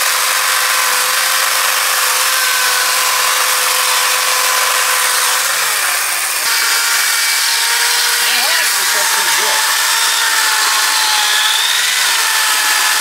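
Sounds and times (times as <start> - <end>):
electric chainsaw cutting log: 0.0 - 13.0.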